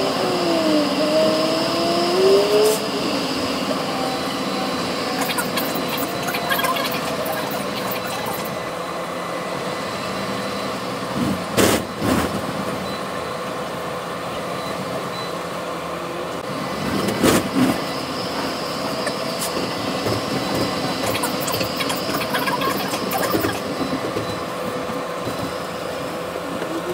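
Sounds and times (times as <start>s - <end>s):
tram rumbling: 0.0s - 12.8s, 13.5s - 26.9s.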